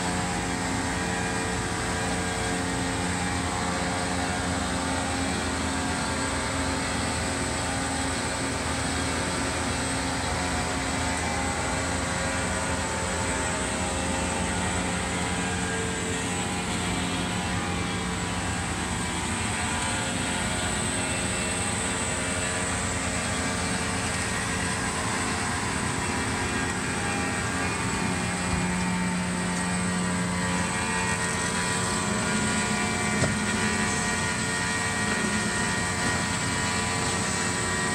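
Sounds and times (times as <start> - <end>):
bandsaw running: 0.0 - 37.9.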